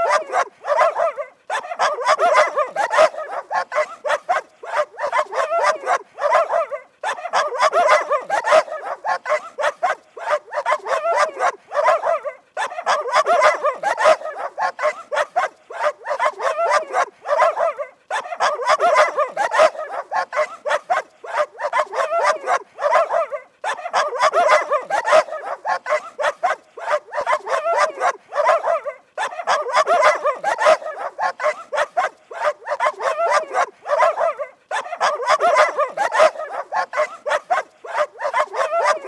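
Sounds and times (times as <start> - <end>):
dog barking: 0.0 - 39.0.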